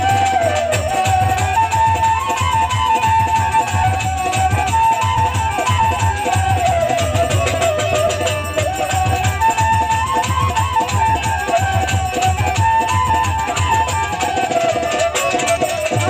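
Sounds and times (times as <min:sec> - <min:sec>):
instrumental folk melody: 0:00.0 - 0:16.0
steady drum beat: 0:00.0 - 0:16.0.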